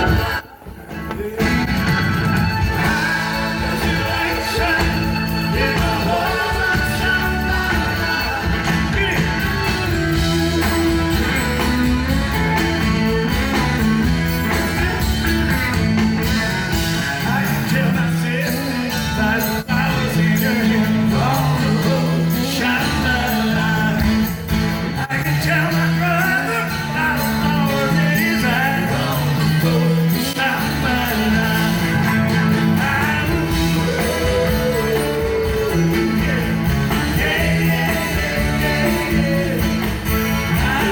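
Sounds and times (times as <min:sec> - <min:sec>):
live rock band instrumental: 0:00.0 - 0:40.9.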